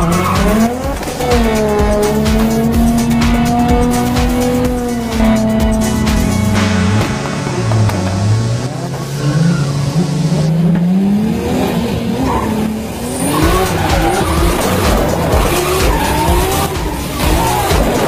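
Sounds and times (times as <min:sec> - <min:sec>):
tyres squealing and skidding: 0:00.0 - 0:07.1, 0:08.6 - 0:18.0
car engine revving: 0:00.0 - 0:18.0.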